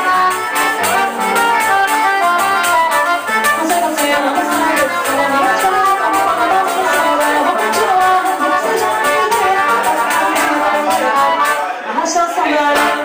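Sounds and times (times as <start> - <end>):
hand percussion: 0.0 - 11.6
accordion chords: 0.0 - 13.0
guitar: 0.0 - 13.0.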